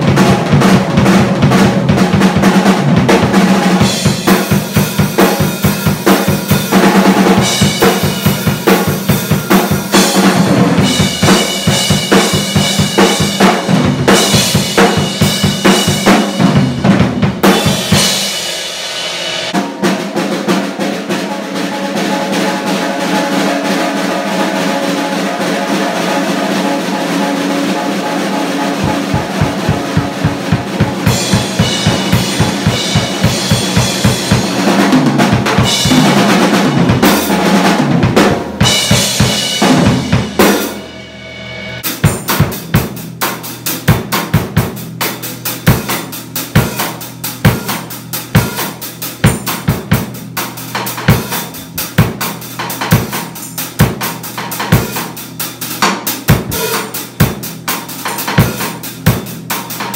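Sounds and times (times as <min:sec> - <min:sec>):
acoustic drum kit playing: 0:00.0 - 0:59.9
rapid bass drum strokes: 0:00.0 - 0:59.9.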